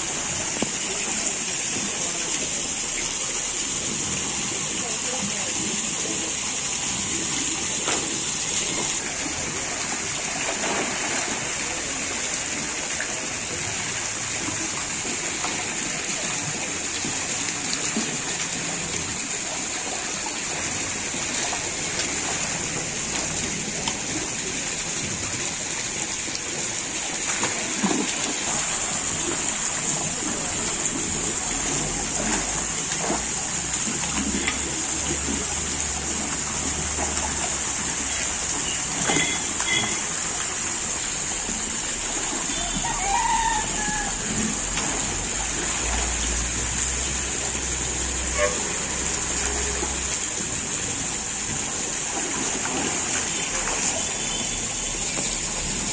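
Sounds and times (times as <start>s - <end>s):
fish splashing: 0.0s - 55.9s
water pouring into tank: 0.0s - 55.9s
legs wading through water: 6.7s - 55.9s.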